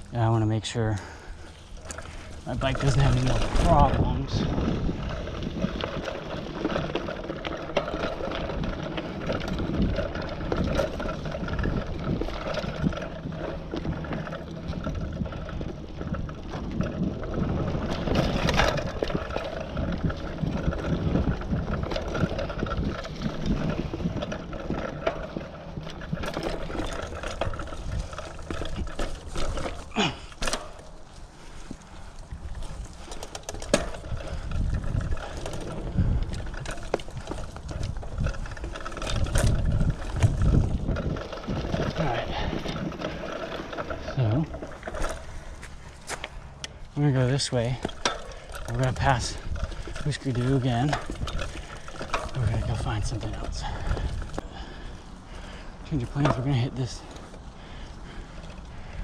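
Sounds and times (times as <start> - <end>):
bike chain and frame rattling: 0.0 - 59.0
bike tyres rolling over dirt: 0.0 - 59.0.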